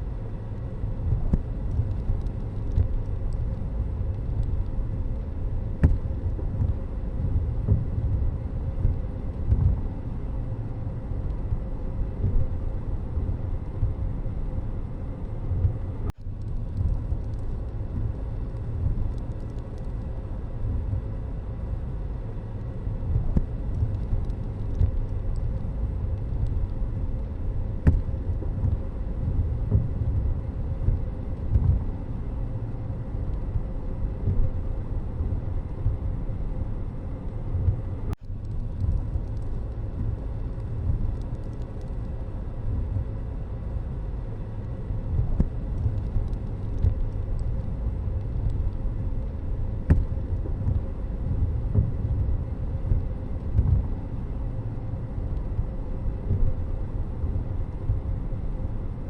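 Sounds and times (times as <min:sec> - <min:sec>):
vehicle rumbling on road: 0:00.0 - 0:59.0.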